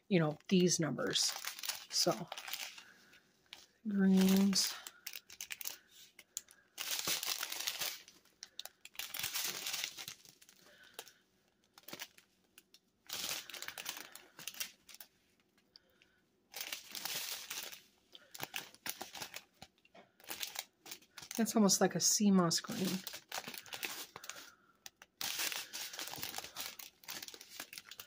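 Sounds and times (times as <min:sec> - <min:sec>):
plastic bags crinkling: 0:00.1 - 0:28.0.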